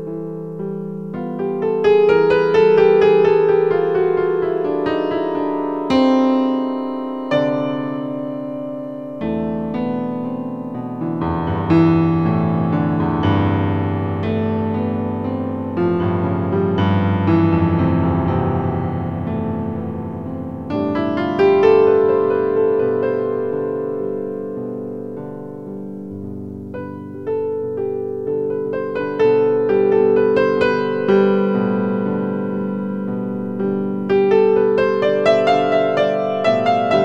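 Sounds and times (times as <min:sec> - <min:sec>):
solo piano playing chords: 0:00.0 - 0:37.0.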